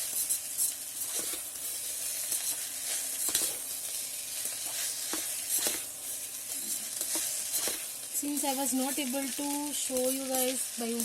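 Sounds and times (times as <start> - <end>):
food sizzling in oil: 0.0 - 11.0
spoon scraping pot: 0.1 - 10.7.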